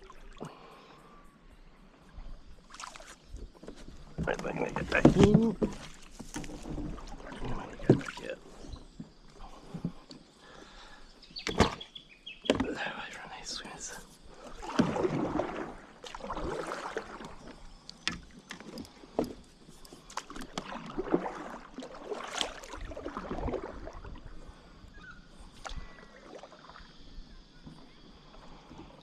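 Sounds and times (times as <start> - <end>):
paddle strokes swishing through water: 1.8 - 12.9, 13.6 - 29.0.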